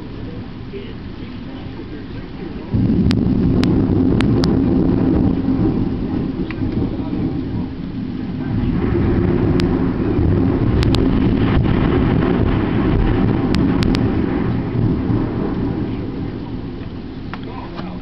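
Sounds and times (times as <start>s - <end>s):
rolling thunder: 0.0s - 18.0s.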